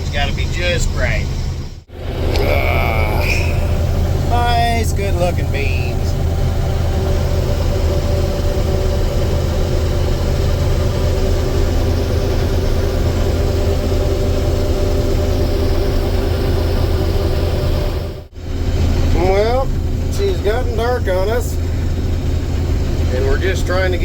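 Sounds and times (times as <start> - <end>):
combine harvester drone: 0.0 - 24.0.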